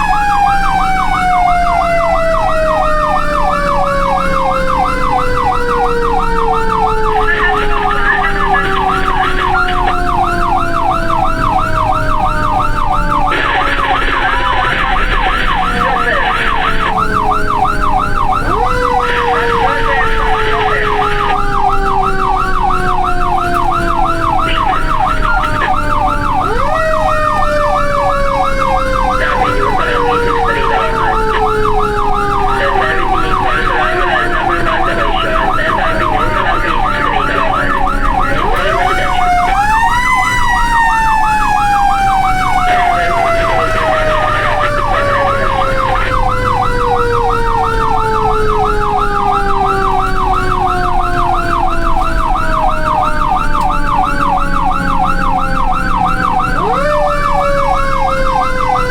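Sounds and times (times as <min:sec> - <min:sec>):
fast warbling siren yelp: 0:00.0 - 0:58.9
wailing siren: 0:00.0 - 0:58.9.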